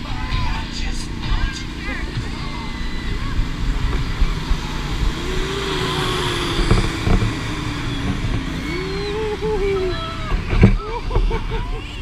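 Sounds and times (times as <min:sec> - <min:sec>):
air buffeting microphone: 0:00.0 - 0:12.0
foam generators rushing: 0:00.0 - 0:12.0.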